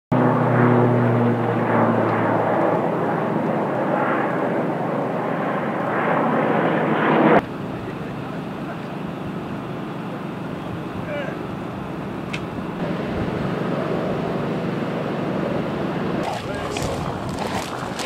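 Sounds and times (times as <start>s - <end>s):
aircraft engine drone overhead: 0.1s - 18.0s.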